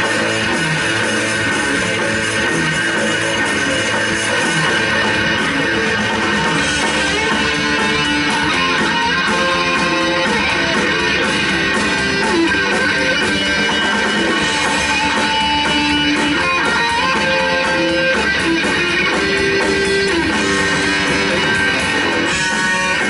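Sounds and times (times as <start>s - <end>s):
bass guitar: 0.0s - 23.0s
drum beat: 0.0s - 23.0s
electric guitar held notes: 0.0s - 23.0s.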